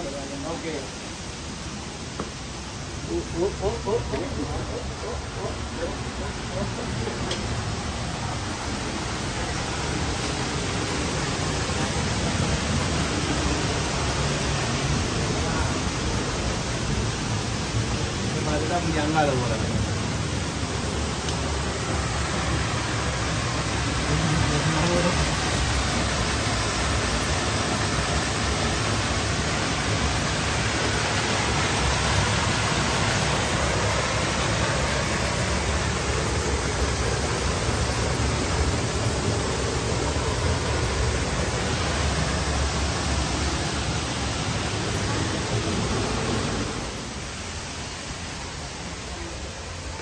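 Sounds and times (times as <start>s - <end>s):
waterfall pouring: 0.0s - 50.0s.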